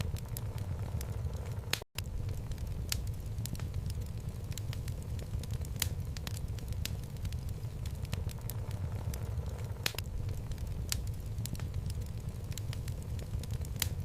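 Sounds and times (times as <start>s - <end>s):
burning wood popping and crackling: 0.0s - 14.0s
low rumble of flame: 0.0s - 14.0s.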